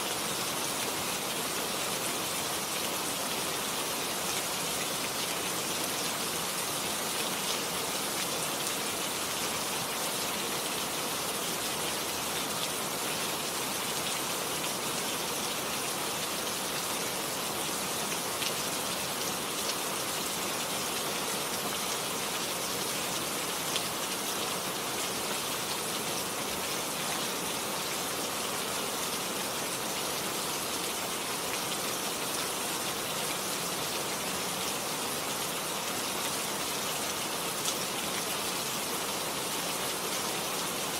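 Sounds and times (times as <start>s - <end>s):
rain falling on plants: 0.0s - 40.9s.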